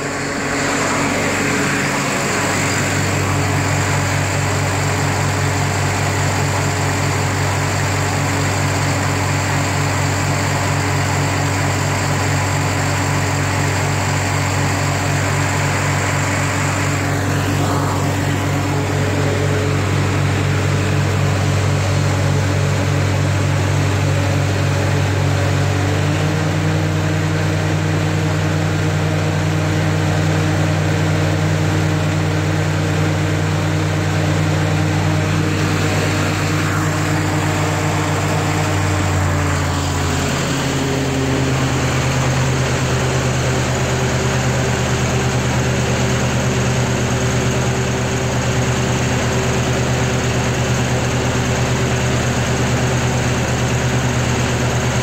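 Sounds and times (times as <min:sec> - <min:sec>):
gasoline engine running: 0:00.0 - 0:55.0.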